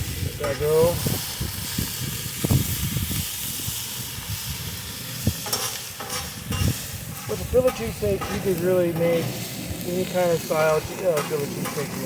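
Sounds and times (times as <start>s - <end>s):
meat and vegetables sizzling in oil: 0.0s - 12.0s.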